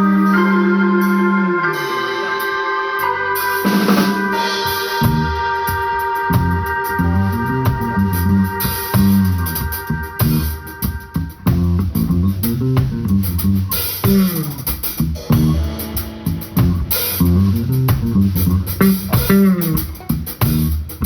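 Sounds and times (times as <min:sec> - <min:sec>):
bass line: 0:00.0 - 0:21.0
drum kit beat: 0:00.0 - 0:21.0
rock band playing: 0:00.0 - 0:21.0.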